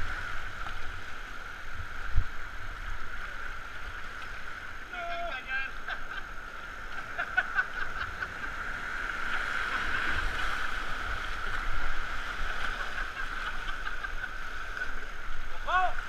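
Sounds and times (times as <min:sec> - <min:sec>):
rushing whitewater: 0:00.0 - 0:16.0
waves splashing against canoe: 0:00.0 - 0:16.0.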